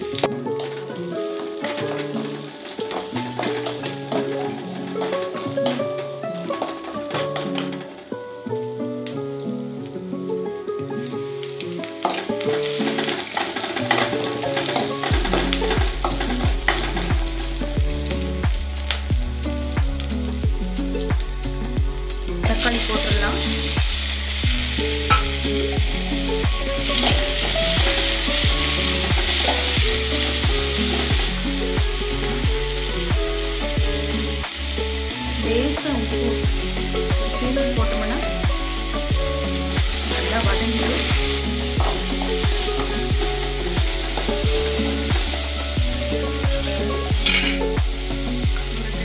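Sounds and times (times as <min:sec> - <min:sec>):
food frying in hot oil: 0:00.0 - 0:49.0.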